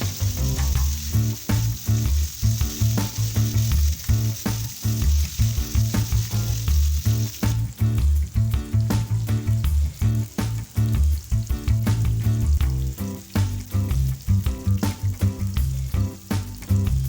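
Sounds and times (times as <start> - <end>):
food sizzling in a pan: 0.0 - 17.0
music with pulsing bass: 0.0 - 17.0.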